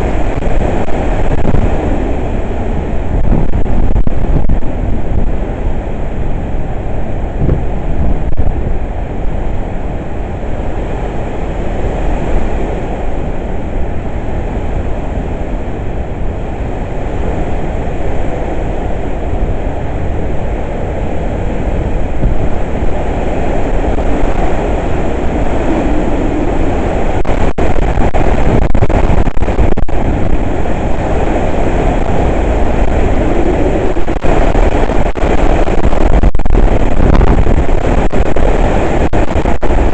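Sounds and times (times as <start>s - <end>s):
strong winds blowing: 0.0s - 39.9s
wind buffeting microphone: 0.0s - 39.9s.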